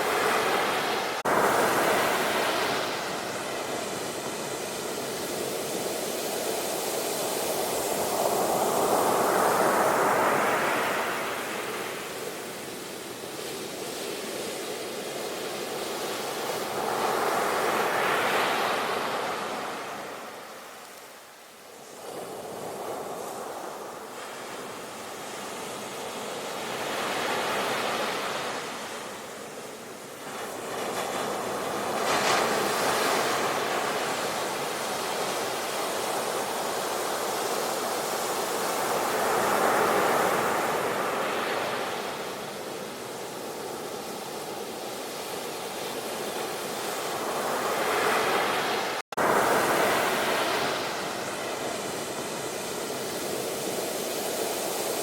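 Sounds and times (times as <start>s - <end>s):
sea waves breaking: 0.0s - 12.5s, 21.8s - 55.0s.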